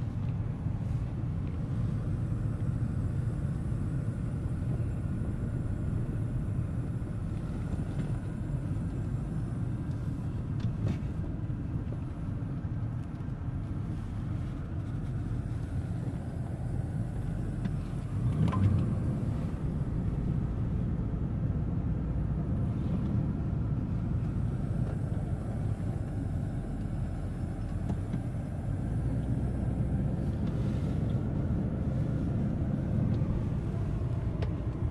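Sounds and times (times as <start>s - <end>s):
car engine and tyres rumbling: 0.0s - 34.9s.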